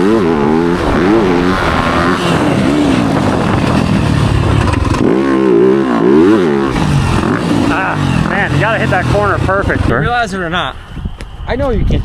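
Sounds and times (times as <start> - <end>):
motorbike engine revving: 0.0 - 10.7.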